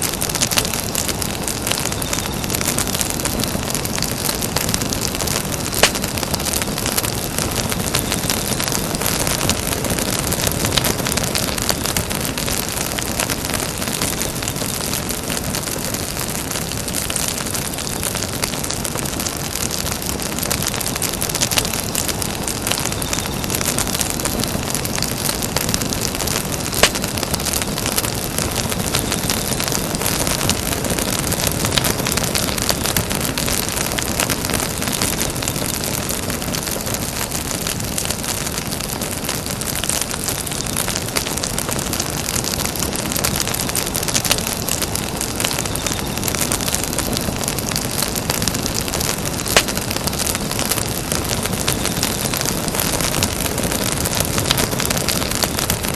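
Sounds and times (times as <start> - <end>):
campfire crackling: 0.0 - 55.9
sharp fire pops: 0.0 - 55.9.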